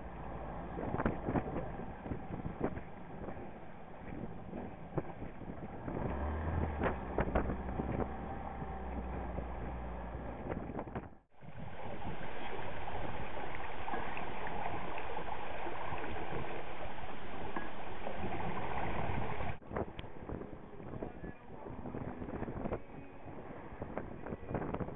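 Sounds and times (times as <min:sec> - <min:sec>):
low hum: 0:00.0 - 0:24.9
water splashing around boat: 0:00.0 - 0:24.9
wind buffeting microphone: 0:00.0 - 0:24.9.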